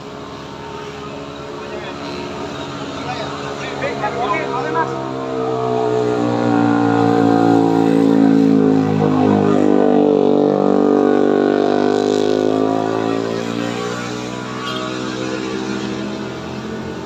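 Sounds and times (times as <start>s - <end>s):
vehicle engine droning under load: 0.0s - 17.0s.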